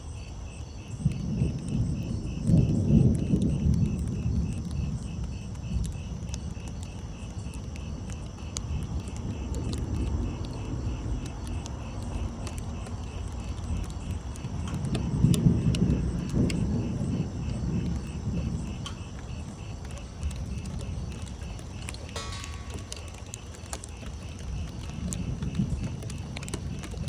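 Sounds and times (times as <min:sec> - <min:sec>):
insects chirping: 0:00.0 - 0:27.0
thunder rumbling: 0:01.0 - 0:27.0
sharp ticks: 0:01.1 - 0:27.0.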